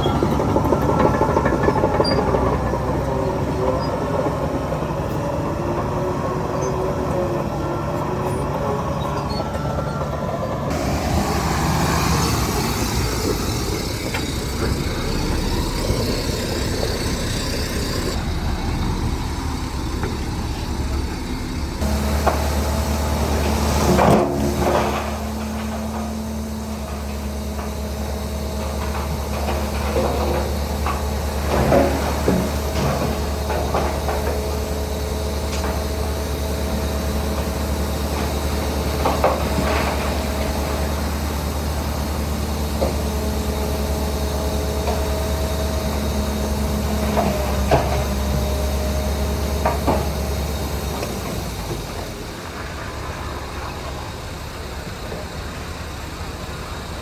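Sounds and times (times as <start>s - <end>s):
deep engine hum: 0.0s - 57.0s
heavy diesel machinery running: 0.0s - 57.0s.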